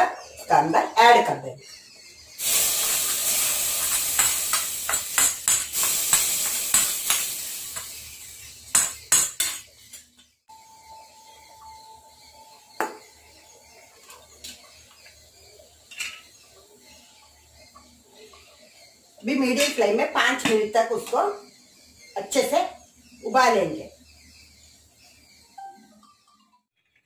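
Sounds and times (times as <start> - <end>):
hot spices sizzling: 1.0 - 25.8.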